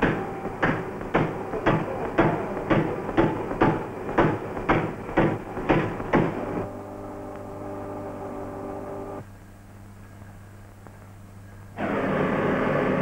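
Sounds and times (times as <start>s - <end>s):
machine whining: 0.0s - 9.3s, 11.7s - 13.0s
low soundtrack hum: 0.0s - 11.8s.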